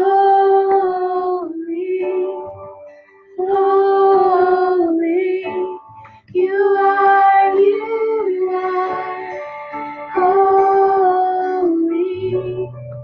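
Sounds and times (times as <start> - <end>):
woman singing slow song: 0.0 - 2.6, 3.4 - 13.0.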